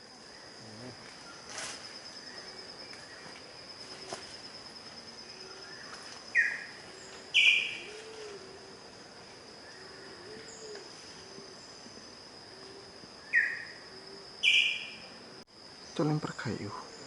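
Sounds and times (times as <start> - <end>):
high-pitched insect drone: 0.0 - 17.0
forest birds calling: 0.2 - 17.0.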